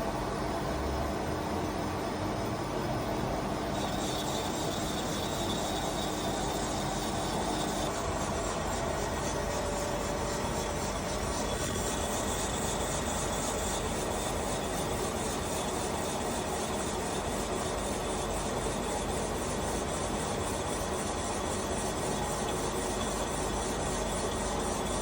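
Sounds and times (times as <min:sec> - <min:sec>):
boring machine cutting metal: 0:03.4 - 0:25.0.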